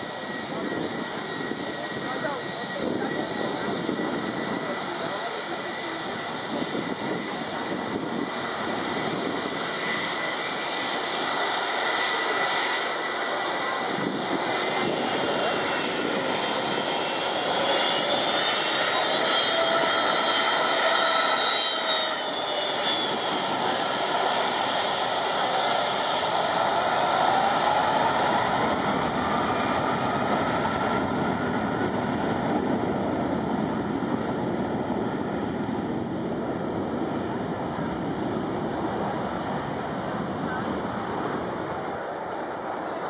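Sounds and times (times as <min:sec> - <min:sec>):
jet blast rushing: 0:00.0 - 0:36.2.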